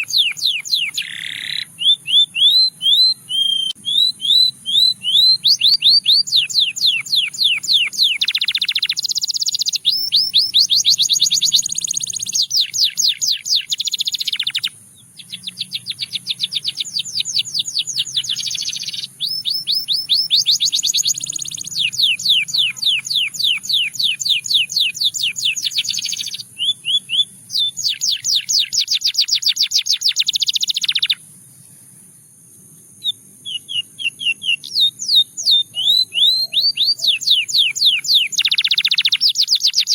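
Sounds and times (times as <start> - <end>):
canary singing: 0.0 - 31.4, 33.0 - 39.9.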